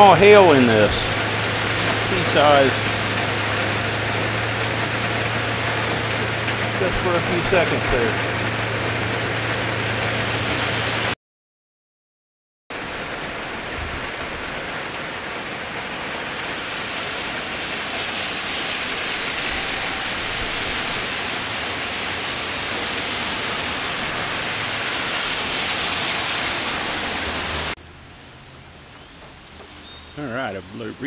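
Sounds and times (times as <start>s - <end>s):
heavy rain hissing: 0.0s - 11.2s, 12.7s - 31.0s.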